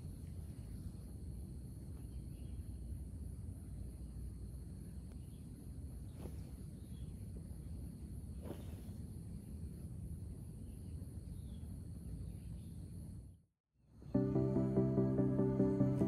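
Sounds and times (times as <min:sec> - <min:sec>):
insects chirring: 0:00.0 - 0:13.4.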